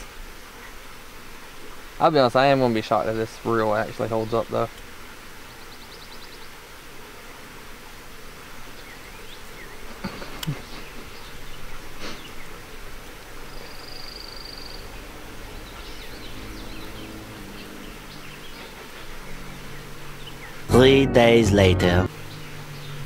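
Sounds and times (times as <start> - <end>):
flying insect buzzing: 0.0 - 23.0.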